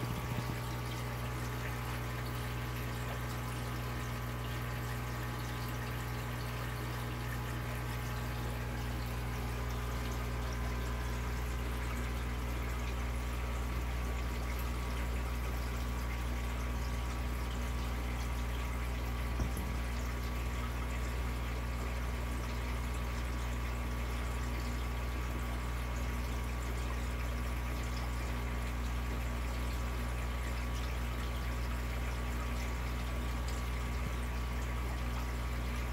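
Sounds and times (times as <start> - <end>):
pump humming: 0.0 - 35.9
water pouring and trickling: 0.0 - 35.9.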